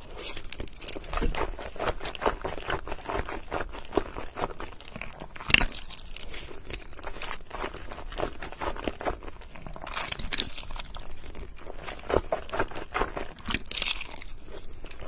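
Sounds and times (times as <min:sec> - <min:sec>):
person slurping and chewing noodles: 0:00.0 - 0:15.0.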